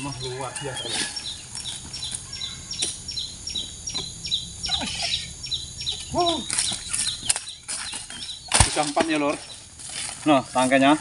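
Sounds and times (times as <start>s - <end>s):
bird chirping rapidly: 0.0s - 9.7s.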